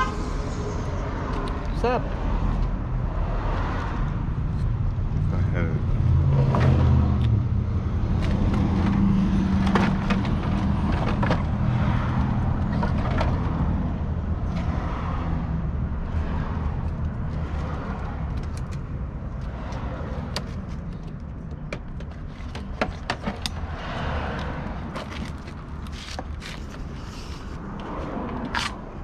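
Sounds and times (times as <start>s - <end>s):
motor vehicle engine rumbling: 0.0s - 29.0s.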